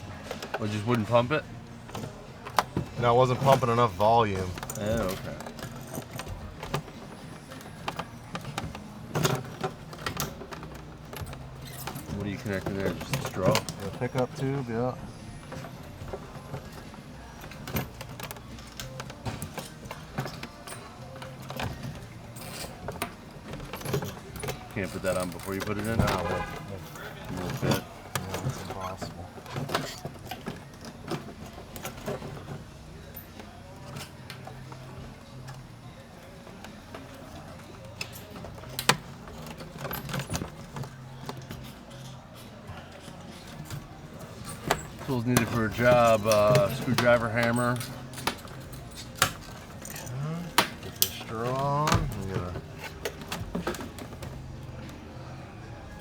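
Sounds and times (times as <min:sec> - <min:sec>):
background music: 0:00.0 - 0:56.0
parts clicking and knocking: 0:00.0 - 0:56.0.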